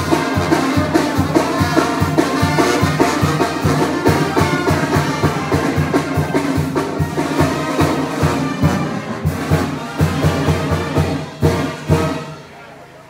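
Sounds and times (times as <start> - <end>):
steady drum beat: 0.0 - 12.4
brass instruments: 0.0 - 13.0.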